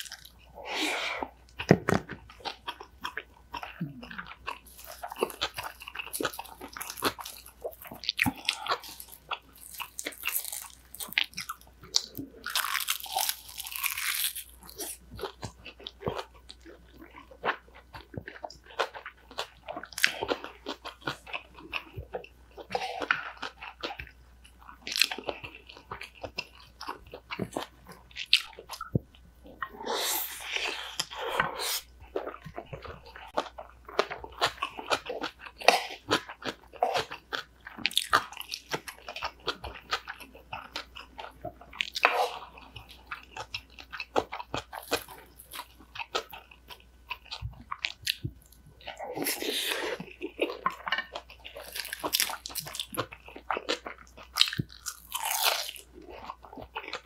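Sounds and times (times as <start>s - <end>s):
crunchy biting and chewing: 0.0s - 57.0s.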